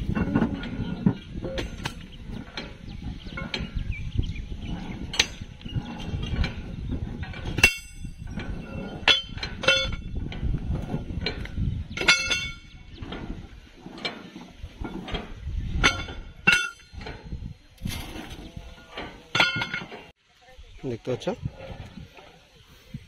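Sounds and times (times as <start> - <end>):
steel tools clanging on rail: 0.0 - 3.8, 4.7 - 20.1.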